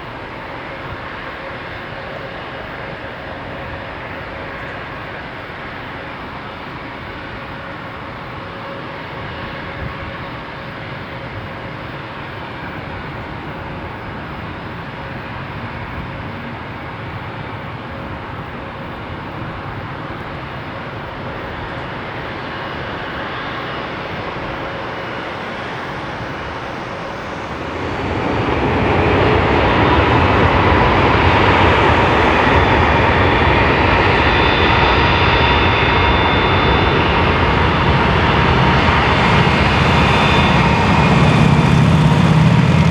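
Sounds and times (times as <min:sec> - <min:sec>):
jet engine noise: 0:00.0 - 0:42.9.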